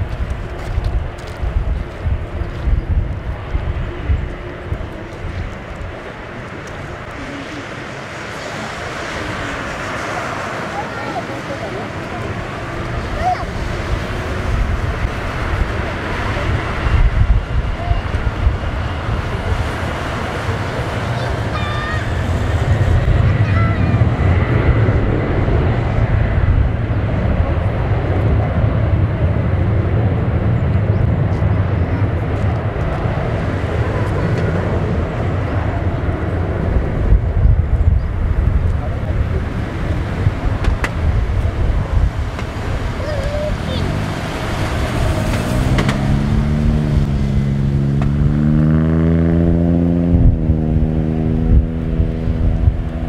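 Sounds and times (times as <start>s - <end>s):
jet engines at take-off thrust: 0.0s - 48.6s, 50.1s - 53.0s.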